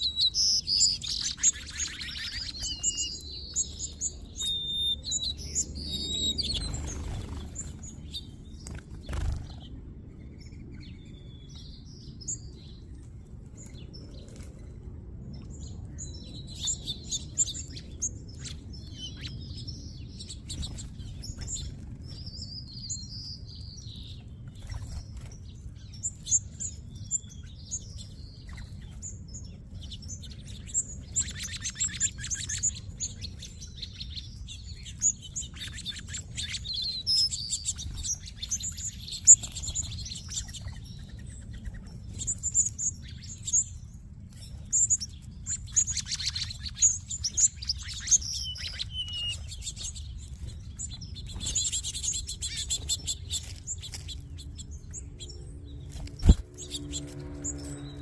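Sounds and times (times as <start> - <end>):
flock of songbirds chirping: 0.0 - 58.0.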